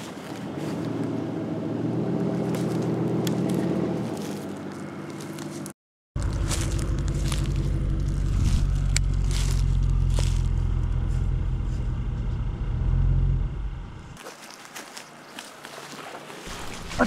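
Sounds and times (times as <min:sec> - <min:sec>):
vehicle engine running steadily: 0:00.0 - 0:14.2.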